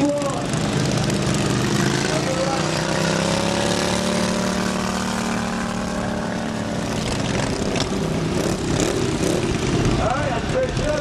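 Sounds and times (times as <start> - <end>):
lawn mower engines running hard: 0.0 - 11.0.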